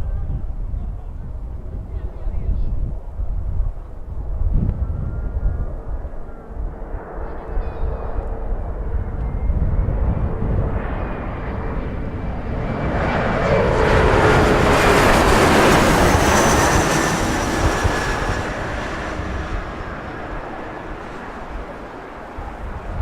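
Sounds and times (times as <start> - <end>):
wind rumbling on microphone: 0.0 - 23.0
jet engines passing by: 0.3 - 23.0.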